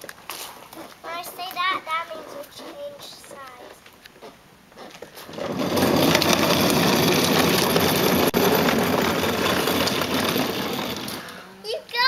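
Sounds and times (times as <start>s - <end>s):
plastic wheels rolling on asphalt: 0.0s - 12.0s.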